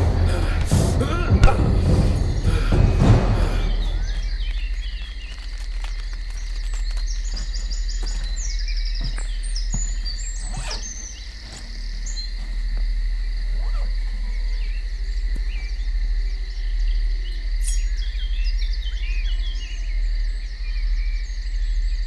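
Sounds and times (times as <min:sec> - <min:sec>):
bird chirps: 0:00.0 - 0:22.0
insect drone: 0:00.0 - 0:22.0.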